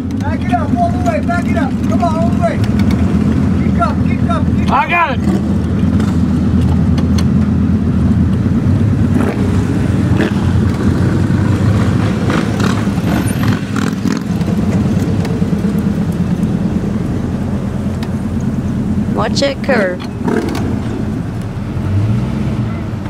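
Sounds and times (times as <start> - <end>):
car engine rumble from cabin: 0.0 - 23.0
road noise: 0.0 - 23.0.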